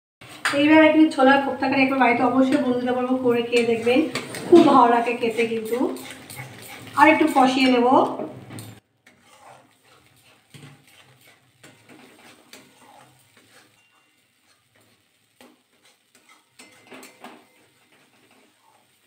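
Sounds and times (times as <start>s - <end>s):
metal spatula scraping a pan: 2.1s - 19.0s.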